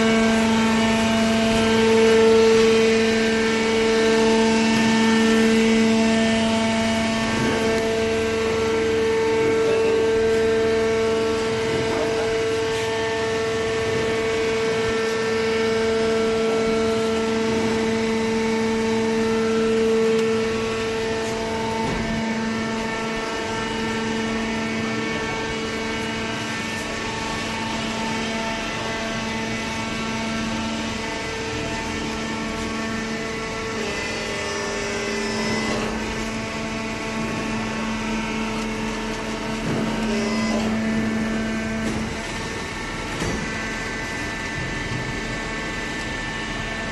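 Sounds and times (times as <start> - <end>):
baler machine humming and whining: 0.0 - 46.9.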